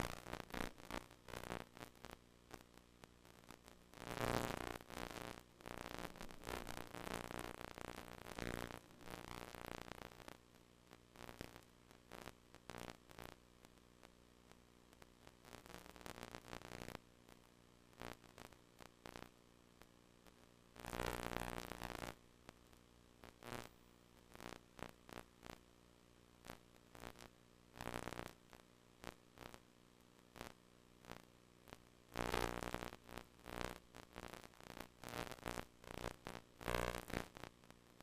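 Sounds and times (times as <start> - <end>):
crackling static: 0.0 - 38.0
low steady tape buzz: 0.0 - 38.0.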